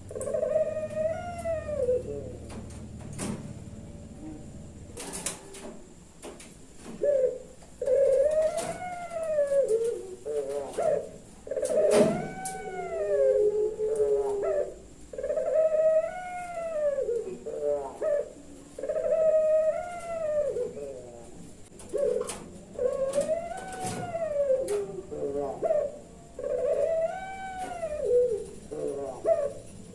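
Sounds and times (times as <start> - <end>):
dove cooing: 0.0 - 29.9.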